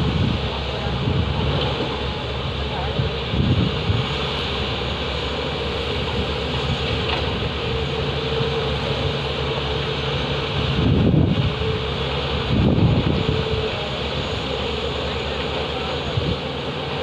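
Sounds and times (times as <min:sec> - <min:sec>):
heavy diesel engines droning: 0:00.0 - 0:17.0.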